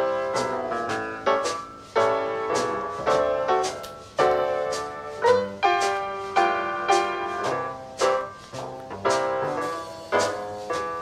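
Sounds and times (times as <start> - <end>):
piano chords ringing: 0.0 - 11.0.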